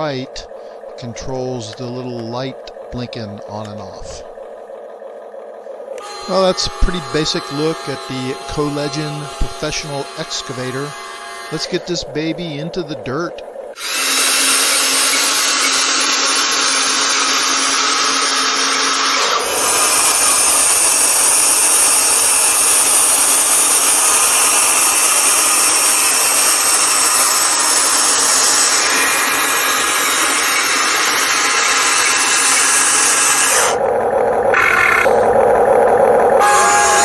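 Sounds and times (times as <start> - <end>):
small electric motors whirring: 0.0 - 37.0.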